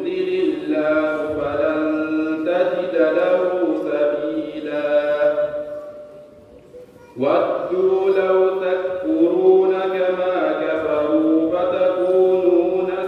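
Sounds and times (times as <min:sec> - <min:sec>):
man chanting recitation: 0:00.0 - 0:06.0, 0:07.1 - 0:13.0.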